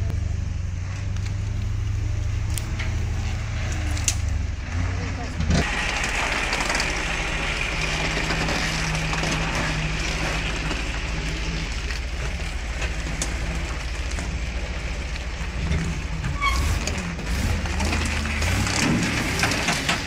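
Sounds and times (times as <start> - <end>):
truck engine low rumble: 0.0 - 20.0.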